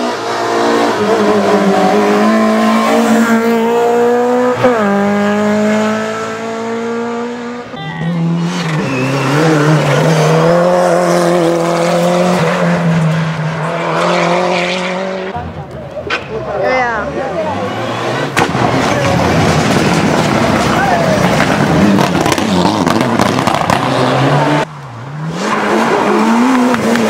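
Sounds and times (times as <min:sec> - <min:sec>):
rally car engine at high revs: 0:00.0 - 0:15.4, 0:17.2 - 0:27.0
rally car engine at full throttle: 0:00.0 - 0:27.0.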